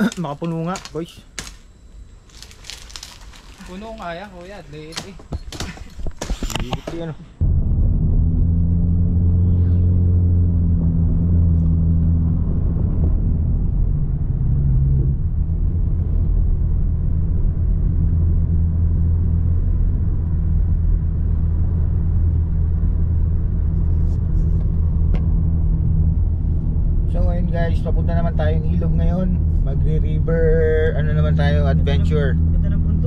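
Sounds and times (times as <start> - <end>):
car engine rumble: 0.0 - 33.0
road noise: 2.3 - 33.0.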